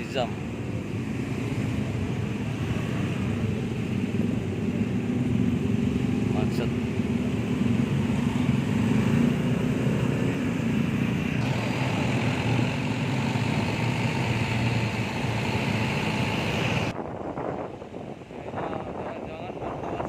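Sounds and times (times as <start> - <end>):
traffic jam engines running: 0.0 - 17.0.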